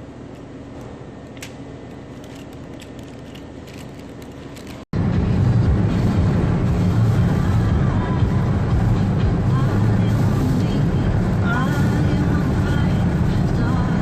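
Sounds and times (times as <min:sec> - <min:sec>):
vehicle humming: 0:00.0 - 0:14.0
dense low rumble of riding vehicle: 0:02.6 - 0:14.0.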